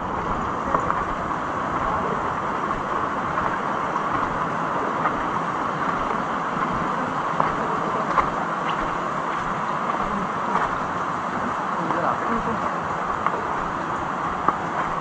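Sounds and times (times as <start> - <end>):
faint footsteps on path: 0.0 - 15.0
falling water rushing: 0.0 - 15.0.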